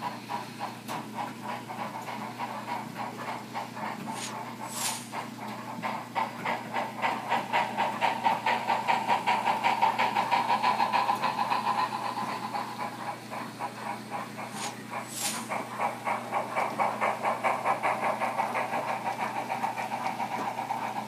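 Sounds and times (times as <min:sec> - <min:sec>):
continuous steam hiss: 0:00.0 - 0:21.0
steam exhaust chuffs: 0:00.0 - 0:21.0.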